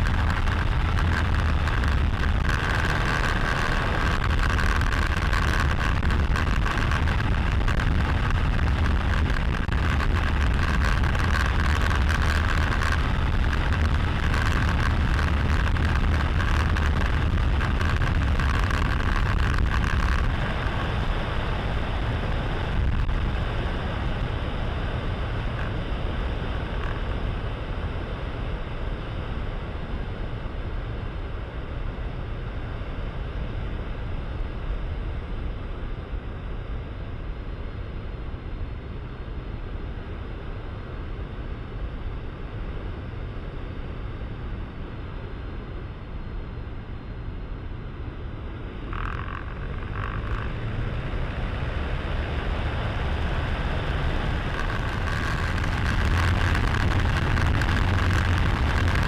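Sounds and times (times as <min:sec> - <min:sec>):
light plane engine droning: 0:00.0 - 0:59.0
wind rushing over camera: 0:00.0 - 0:59.0.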